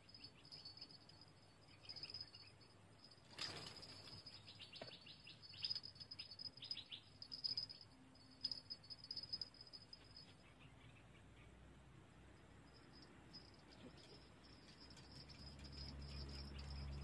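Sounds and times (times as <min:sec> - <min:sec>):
bird-like chirps: 0:00.0 - 0:11.6, 0:12.8 - 0:17.0.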